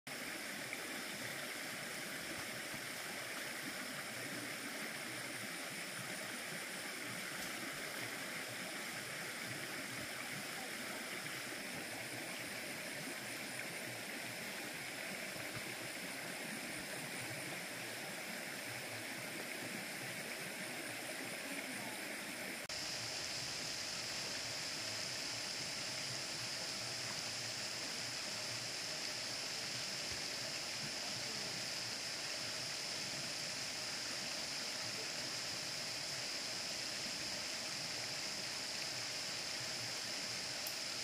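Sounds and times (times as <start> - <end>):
stream water flowing: 0.1 - 41.0.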